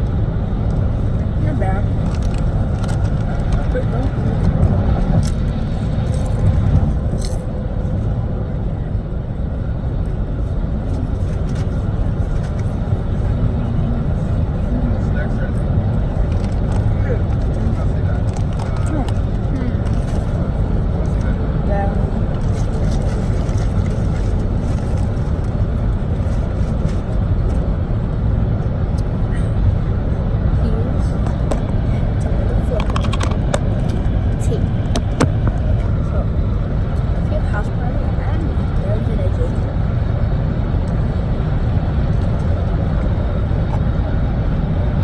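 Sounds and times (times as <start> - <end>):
low rumble: 0.0 - 45.0.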